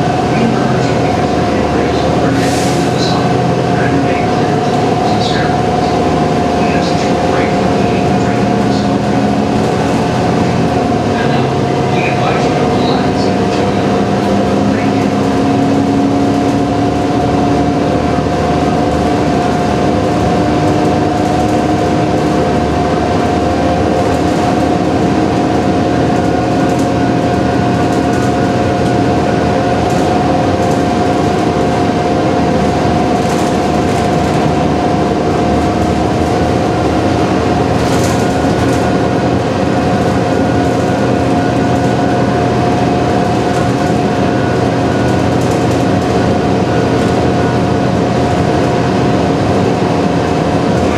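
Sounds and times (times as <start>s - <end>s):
bus engine drone: 0.0s - 50.9s
high whine: 0.0s - 50.9s
road noise: 0.0s - 50.9s.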